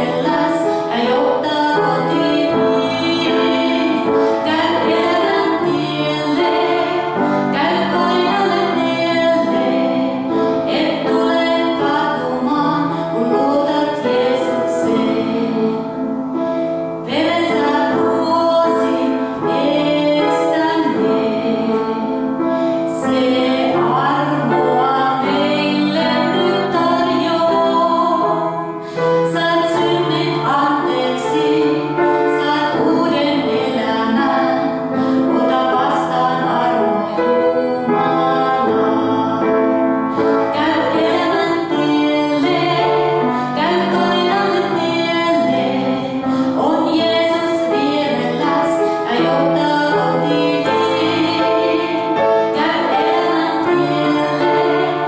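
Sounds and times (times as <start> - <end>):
instrumental accompaniment: 0.0 - 55.0
woman singing: 0.0 - 55.0.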